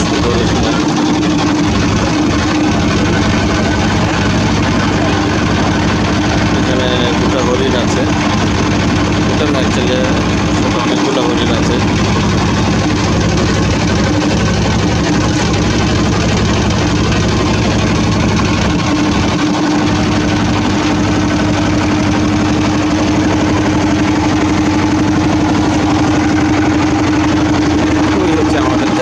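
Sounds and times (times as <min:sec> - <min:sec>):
motorboat engine running: 0:00.0 - 0:29.0.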